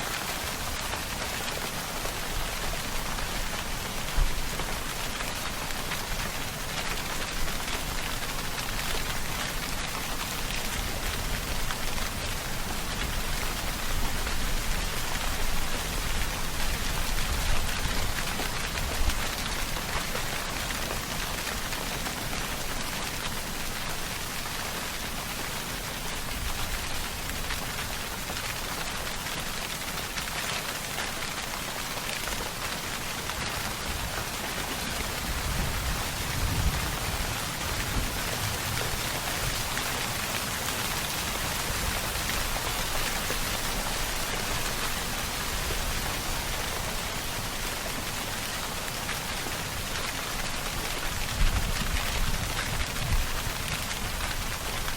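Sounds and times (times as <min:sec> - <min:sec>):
rain pattering: 0:00.0 - 0:54.9.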